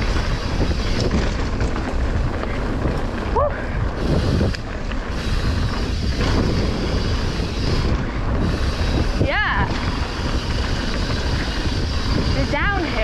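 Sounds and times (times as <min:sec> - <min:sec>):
bike clicks and knocks: 0:00.0 - 0:13.0
bike tyres on dirt trail: 0:00.0 - 0:13.0
wind rushing over microphone: 0:00.0 - 0:13.0.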